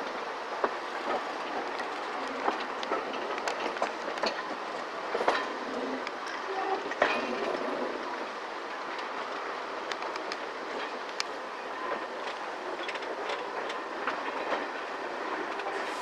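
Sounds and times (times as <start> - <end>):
railway coach rumbling: 0.0 - 16.0
wheels clicking on rails: 0.0 - 16.0.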